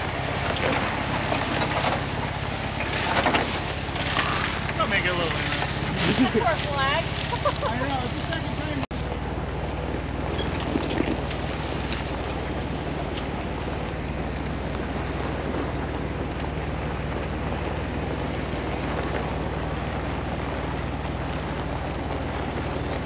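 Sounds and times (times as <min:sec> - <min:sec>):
off-road vehicle engine drone: 0:00.0 - 0:23.0
tyre and wind noise: 0:00.0 - 0:23.0.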